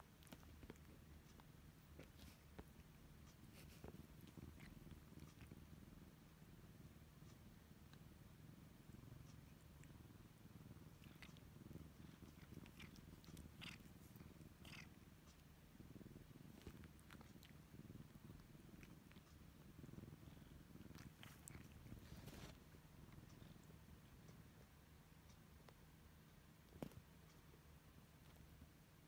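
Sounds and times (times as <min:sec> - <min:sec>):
cat purring: 0:00.0 - 0:29.0.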